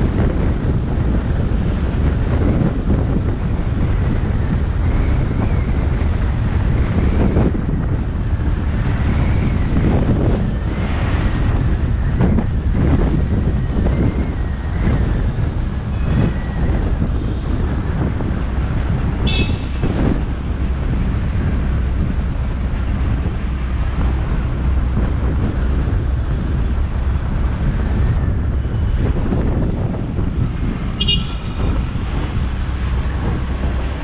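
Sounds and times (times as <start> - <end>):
car road noise: 0.0 - 34.0
wind rumbling on microphone: 0.0 - 34.0.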